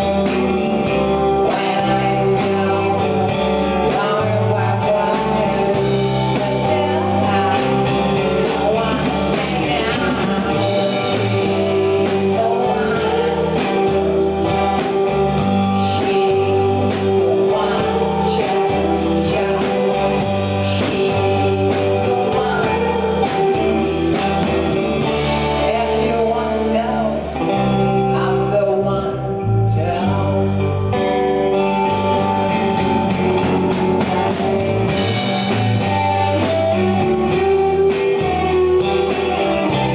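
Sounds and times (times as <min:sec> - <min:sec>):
drum kit: 0:00.0 - 0:28.5, 0:29.8 - 0:39.9
man singing: 0:00.0 - 0:31.4, 0:33.8 - 0:39.9
electric bass: 0:00.0 - 0:39.9
electric guitars: 0:00.0 - 0:39.9.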